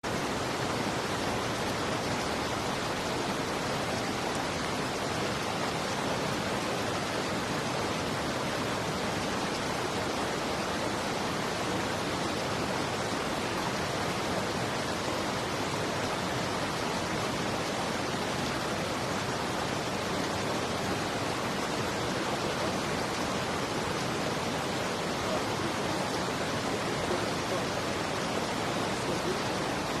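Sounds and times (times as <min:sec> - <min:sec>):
rushing water: 0:00.0 - 0:30.0.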